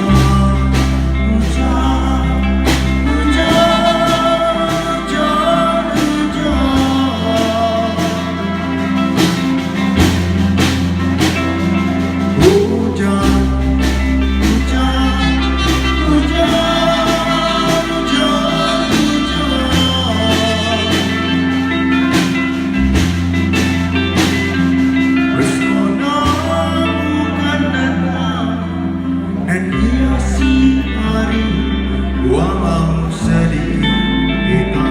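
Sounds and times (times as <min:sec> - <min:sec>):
live band playing: 0:00.0 - 0:34.9
person singing: 0:00.0 - 0:34.9.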